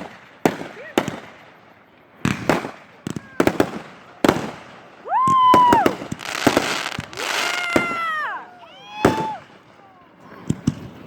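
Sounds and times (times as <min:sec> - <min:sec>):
fireworks bangs: 0:00.0 - 0:11.0
fireworks hissing crackle: 0:00.0 - 0:11.0
whistling fireworks shrieking: 0:00.0 - 0:11.0.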